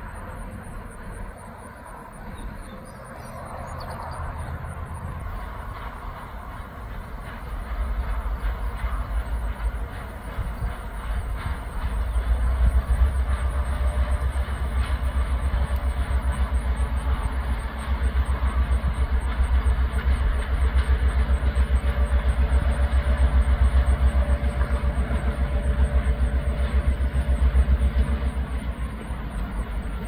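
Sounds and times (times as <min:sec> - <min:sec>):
diesel locomotive engine running: 0:00.0 - 0:30.0.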